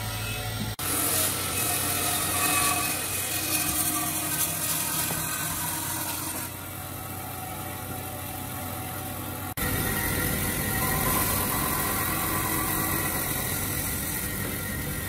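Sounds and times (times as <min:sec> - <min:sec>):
saw blade hissing through wood: 0:00.0 - 0:06.8, 0:09.6 - 0:15.0
band saw motor running: 0:00.0 - 0:15.0.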